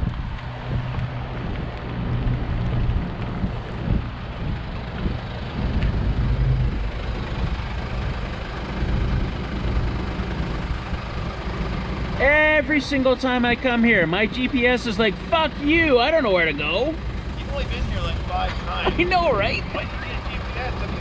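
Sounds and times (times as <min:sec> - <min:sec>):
road noise: 0:00.0 - 0:21.0
vehicle engine hum: 0:00.0 - 0:21.0.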